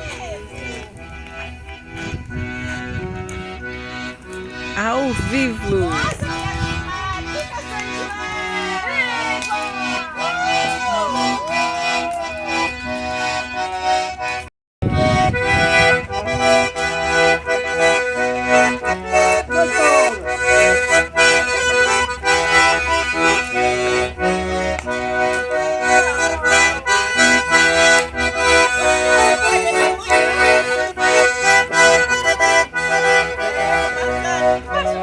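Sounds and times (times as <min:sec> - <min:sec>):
accordion playing dance music: 0:00.0 - 0:35.0.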